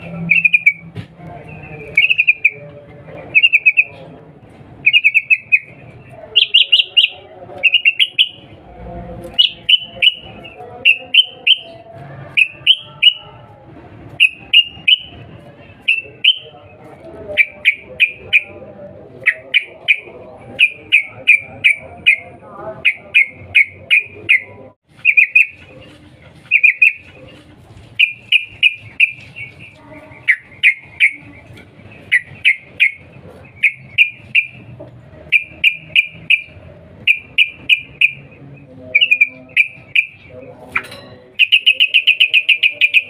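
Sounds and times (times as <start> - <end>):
bird giving sharp repeated calls: 0.0 - 0.9, 1.9 - 2.6, 3.3 - 4.0, 4.8 - 8.6, 9.3 - 13.3, 14.2 - 15.2, 15.8 - 16.6, 17.4 - 25.7, 26.5 - 27.1, 27.9 - 34.7, 35.3 - 40.3, 41.4 - 43.0.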